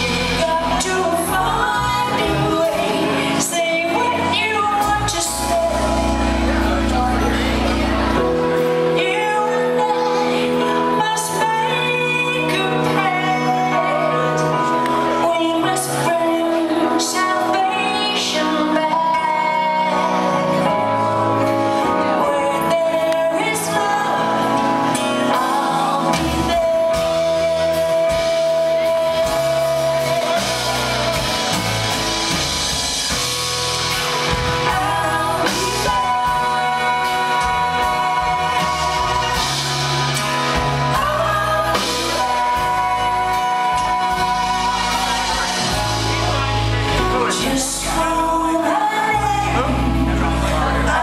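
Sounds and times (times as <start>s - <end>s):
live pop band playing: 0.0s - 51.0s
woman singing: 0.0s - 51.0s.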